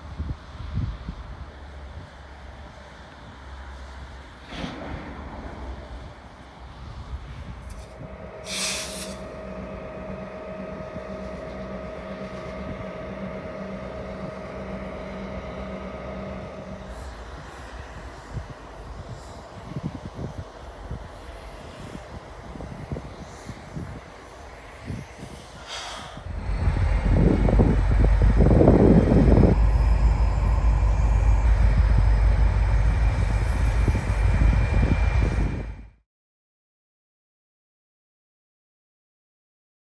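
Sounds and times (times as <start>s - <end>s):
diesel locomotive engine running: 0.0s - 36.0s
passing train rolling: 0.0s - 36.0s.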